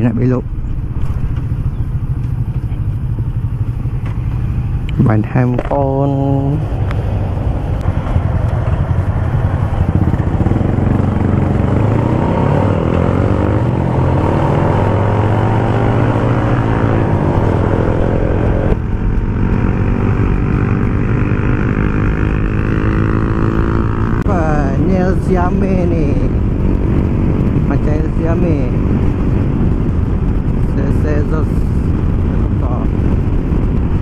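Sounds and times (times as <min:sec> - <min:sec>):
motorcycle engine running: 0:00.0 - 0:34.0
wind rushing past: 0:00.0 - 0:34.0.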